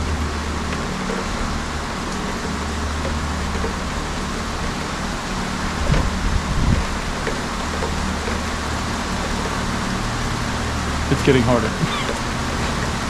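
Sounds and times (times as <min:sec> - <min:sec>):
constant low hum: 0:00.0 - 0:13.0
heavy rain pouring: 0:00.0 - 0:13.0.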